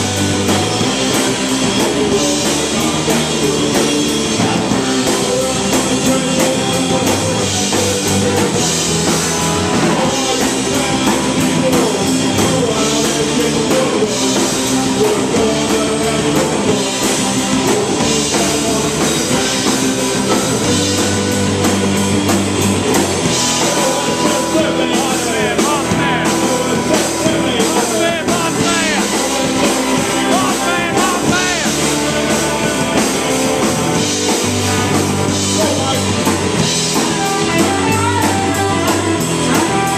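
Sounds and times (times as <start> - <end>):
person singing: 0.0 - 21.8, 23.0 - 36.3, 36.9 - 39.9
drum kit: 0.0 - 39.9
electric guitars: 0.0 - 39.9.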